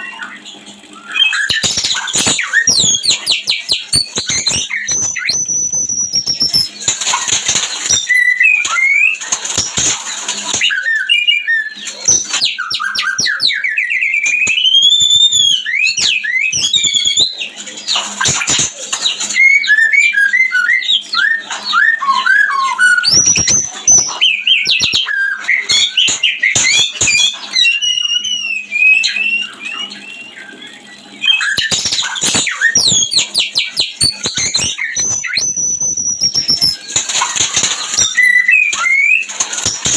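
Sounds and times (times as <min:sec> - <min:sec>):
songbirds singing and trilling: 0:00.0 - 0:09.6, 0:10.5 - 0:39.9.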